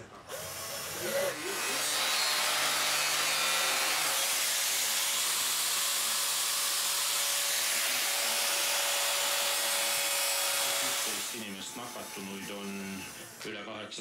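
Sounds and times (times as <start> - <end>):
angle grinder on wood: 0.0 - 13.6.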